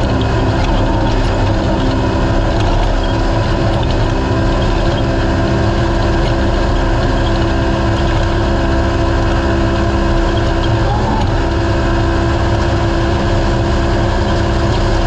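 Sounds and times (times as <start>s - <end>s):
engine running steadily: 0.0s - 15.0s
road noise: 0.0s - 15.0s.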